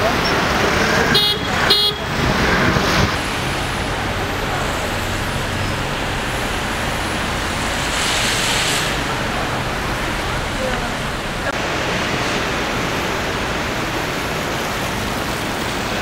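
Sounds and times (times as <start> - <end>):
car engines running: 0.0 - 16.0
passing vehicle hiss: 0.0 - 16.0
tyres on snow: 0.0 - 16.0.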